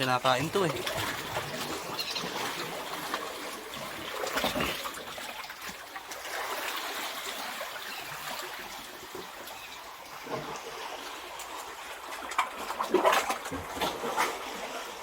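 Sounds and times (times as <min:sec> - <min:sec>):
seawater washing among rocks: 0:00.0 - 0:15.0.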